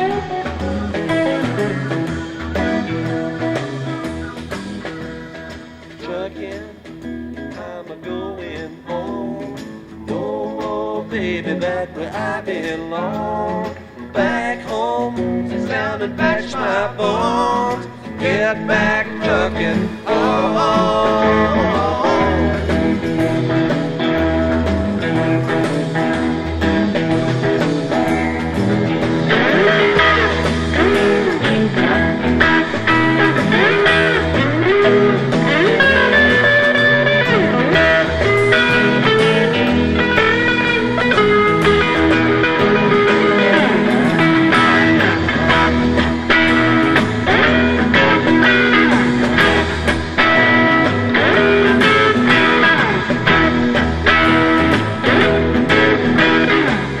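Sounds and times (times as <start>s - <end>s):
pulsing bass line: 0.0s - 6.0s, 14.1s - 57.0s
electric guitar lead: 0.0s - 57.0s.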